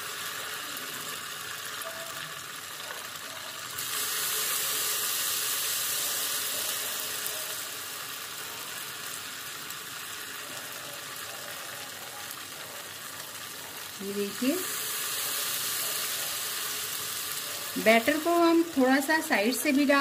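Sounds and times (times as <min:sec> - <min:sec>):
batter sizzling in hot oil: 0:00.0 - 0:20.0.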